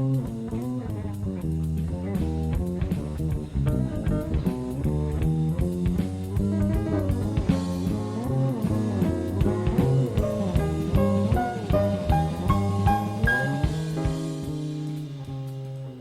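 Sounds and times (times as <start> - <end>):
jazz-fusion band playing: 0.0 - 16.0.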